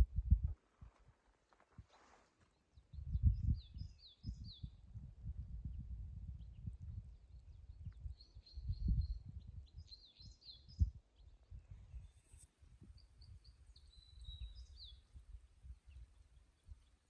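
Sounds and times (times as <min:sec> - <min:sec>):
songbirds chirping: 0:00.8 - 0:17.0.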